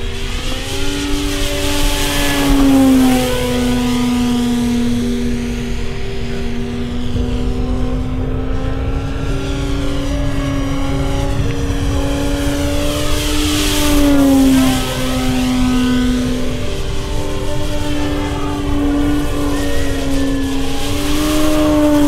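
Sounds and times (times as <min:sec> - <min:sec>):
model airplane motor whining: 0:00.0 - 0:22.0.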